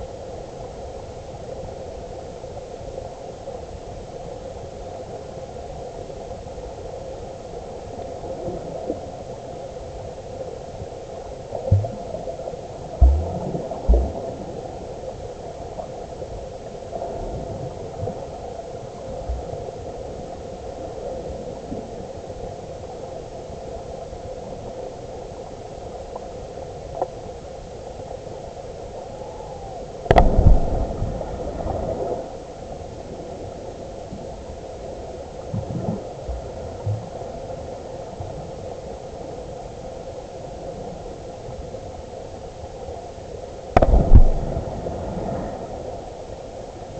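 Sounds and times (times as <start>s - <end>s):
underwater river rushing: 0.0s - 46.9s.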